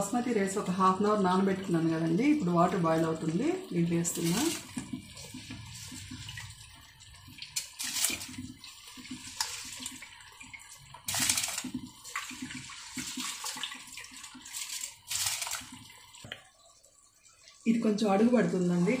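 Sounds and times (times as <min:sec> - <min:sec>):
water bubbling in a pot: 0:00.0 - 0:19.0.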